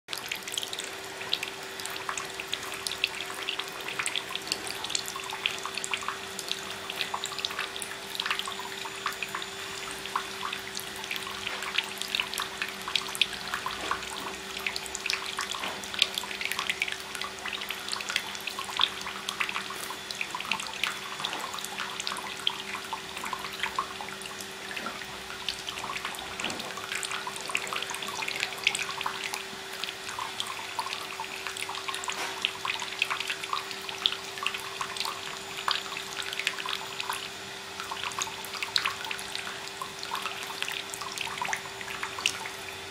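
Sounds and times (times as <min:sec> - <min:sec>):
faint steady hum: 0:00.1 - 0:42.9
tap water running into sink: 0:00.1 - 0:42.9.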